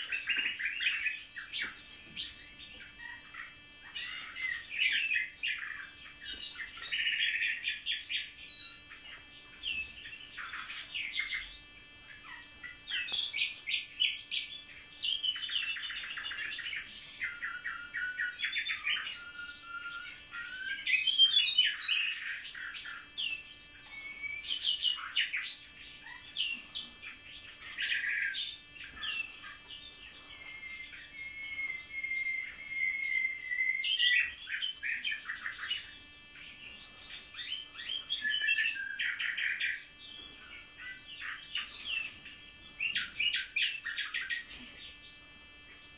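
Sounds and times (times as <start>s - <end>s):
nightingales singing: 0.0s - 45.9s.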